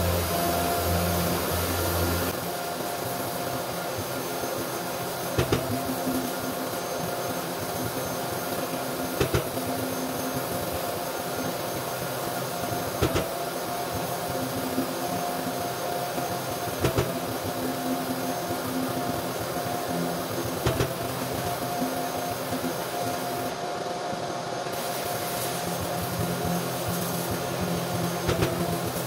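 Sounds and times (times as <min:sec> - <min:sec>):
steady machine hum: 0:00.0 - 0:29.0.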